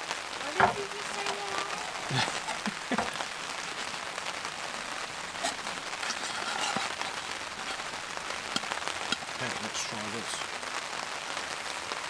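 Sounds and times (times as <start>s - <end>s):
rain pattering on canvas tarp: 0.0s - 12.0s.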